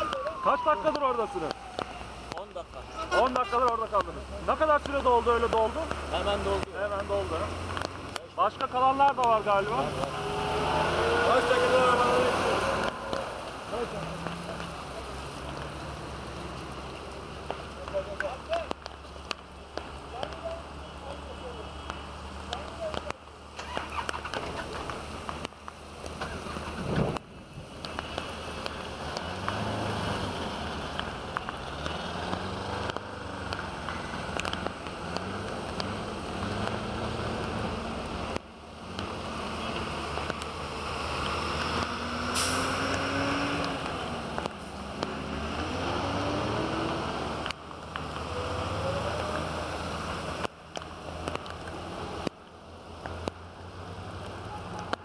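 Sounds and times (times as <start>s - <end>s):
car engines revving: 0.0s - 55.0s
rain: 0.0s - 55.0s.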